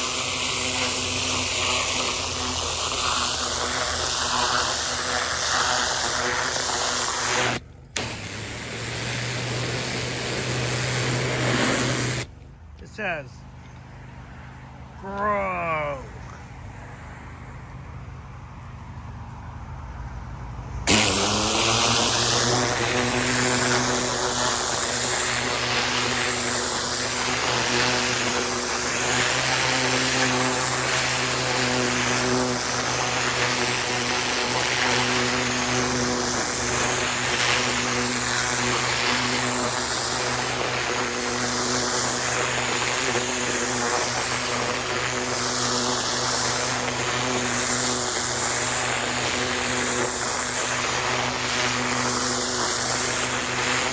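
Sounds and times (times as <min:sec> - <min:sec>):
spray hissing into soil: 0:00.0 - 0:12.3, 0:20.9 - 0:53.9
pressure washer motor: 0:00.0 - 0:12.5, 0:20.8 - 0:53.9.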